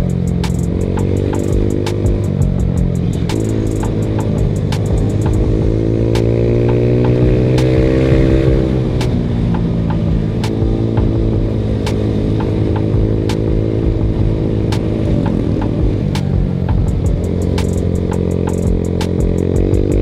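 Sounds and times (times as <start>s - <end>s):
scooter engine running: 0.0s - 20.0s
sharp ticks: 0.0s - 20.0s.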